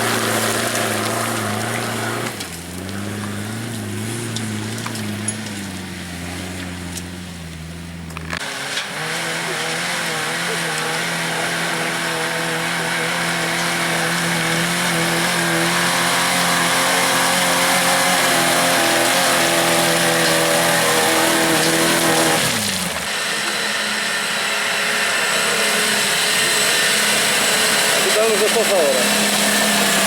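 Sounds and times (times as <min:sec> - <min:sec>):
off-road engine at high revs: 0:00.0 - 0:30.0.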